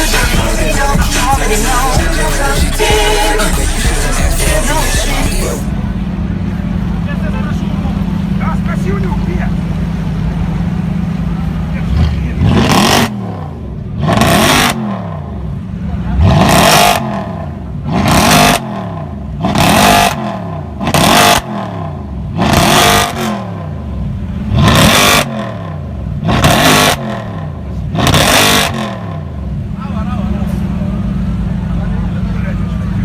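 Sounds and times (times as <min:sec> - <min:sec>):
car engine revving: 0:00.0 - 0:29.7.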